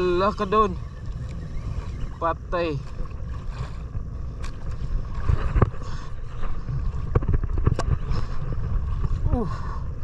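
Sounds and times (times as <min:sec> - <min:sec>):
boat engine rumble: 0:00.0 - 0:10.0
water: 0:00.0 - 0:10.0
wind: 0:00.0 - 0:10.0.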